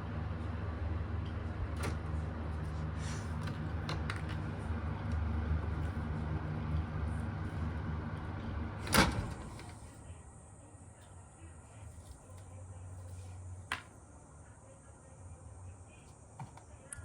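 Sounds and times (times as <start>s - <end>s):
ventilation fan humming: 0.0s - 17.0s.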